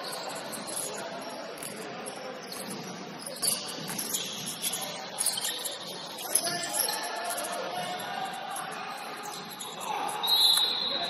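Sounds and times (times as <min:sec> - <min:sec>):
gym background noise: 0:00.0 - 0:11.0
shoes squeaking on court: 0:00.0 - 0:11.0.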